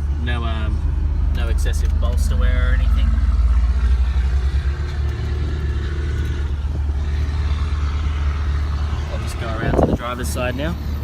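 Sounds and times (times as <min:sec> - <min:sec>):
car engine idling deep: 0:00.0 - 0:11.0.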